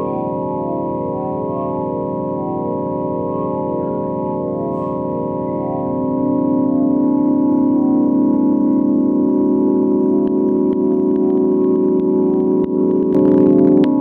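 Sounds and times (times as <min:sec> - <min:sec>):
ambient organ-like drone: 0:00.0 - 0:14.0.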